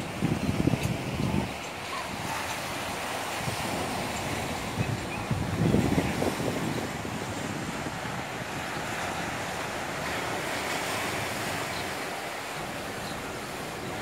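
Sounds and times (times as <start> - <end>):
waves washing over rocks: 0.0 - 14.0
wind rumble on microphone: 0.0 - 14.0.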